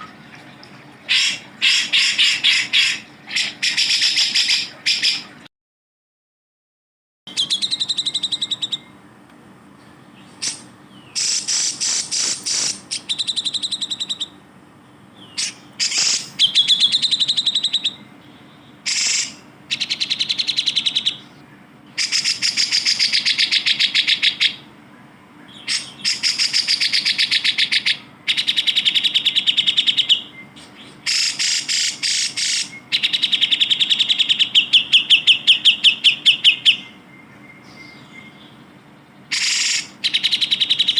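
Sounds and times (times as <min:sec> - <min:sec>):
bulbul chattering trills: 0:01.0 - 0:05.4, 0:07.3 - 0:09.0, 0:10.1 - 0:14.4, 0:15.1 - 0:24.8, 0:25.4 - 0:40.9.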